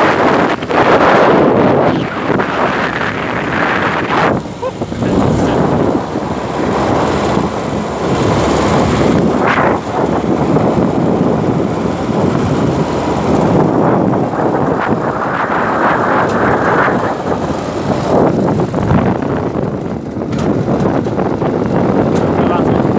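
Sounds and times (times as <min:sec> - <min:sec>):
truck engine and road noise: 0:00.0 - 0:22.9
wind buffeting microphone: 0:00.0 - 0:22.9.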